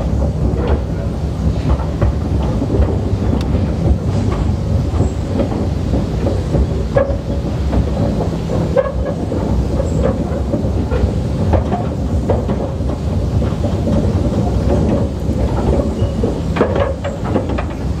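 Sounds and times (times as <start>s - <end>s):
clicks from rail joints: 0.0s - 18.0s
wheels rumbling on rails: 0.0s - 18.0s.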